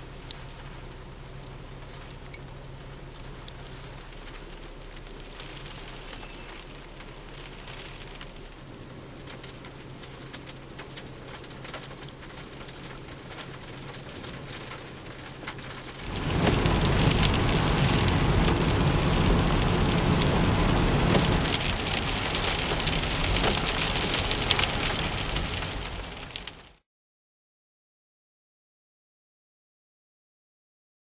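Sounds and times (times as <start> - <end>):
dense downpour hiss: 0.0 - 26.8
rain pattering: 0.0 - 26.8.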